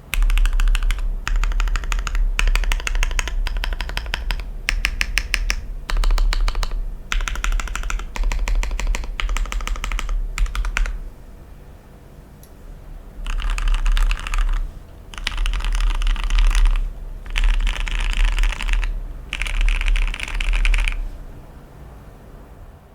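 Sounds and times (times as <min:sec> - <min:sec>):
typing on mechanical keyboard: 0:00.0 - 0:11.0, 0:13.2 - 0:21.1.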